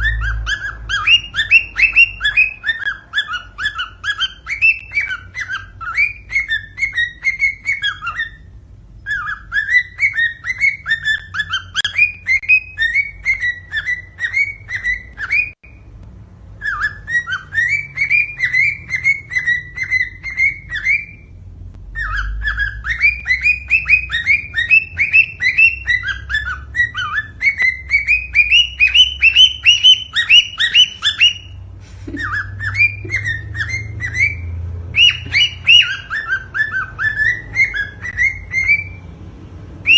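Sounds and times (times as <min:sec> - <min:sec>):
cockatiel whistling song: 0:00.0 - 0:15.9, 0:16.5 - 0:39.1.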